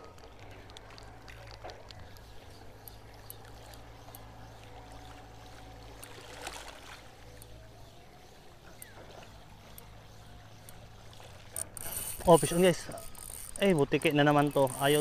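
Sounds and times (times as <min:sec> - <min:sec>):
faint clicks: 0:00.0 - 0:07.6, 0:08.3 - 0:15.0
sea water lapping: 0:00.0 - 0:15.0
steady low hum: 0:00.0 - 0:15.0.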